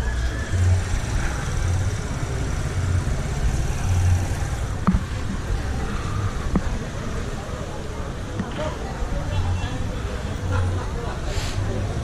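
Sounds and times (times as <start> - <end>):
street rumble: 0.0 - 12.0.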